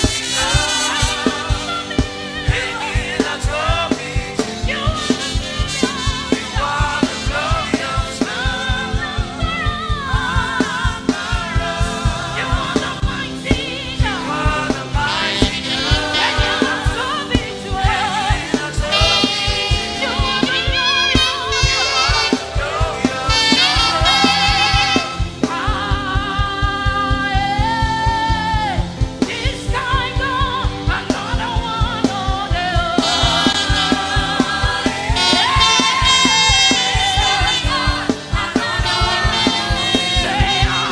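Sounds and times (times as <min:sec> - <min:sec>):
band with driving drum beat: 0:00.0 - 0:40.9
voices singing gospel: 0:00.0 - 0:40.9.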